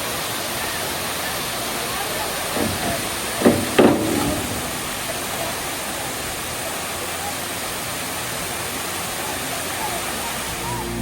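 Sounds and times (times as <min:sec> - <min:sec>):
waterfall rushing: 0:00.0 - 0:11.0
voices calling out: 0:00.2 - 0:11.0.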